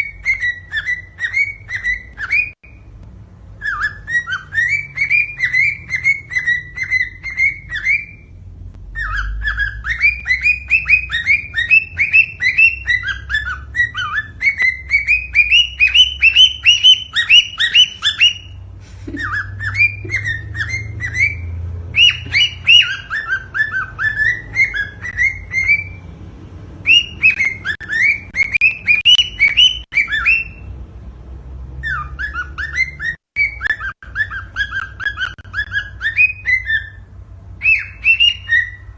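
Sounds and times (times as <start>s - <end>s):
cockatiel chirping whistles: 0.0s - 2.8s, 3.6s - 8.3s, 8.9s - 26.0s, 26.8s - 30.7s, 31.8s - 38.9s.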